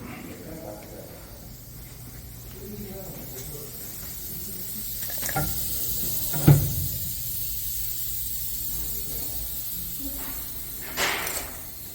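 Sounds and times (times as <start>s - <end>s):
steady hiss: 0.3s - 11.9s.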